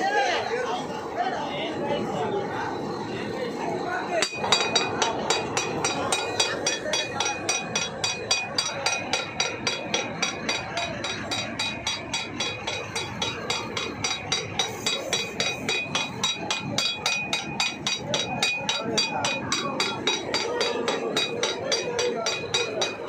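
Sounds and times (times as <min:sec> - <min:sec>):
boat machinery noise: 0:00.0 - 0:23.0.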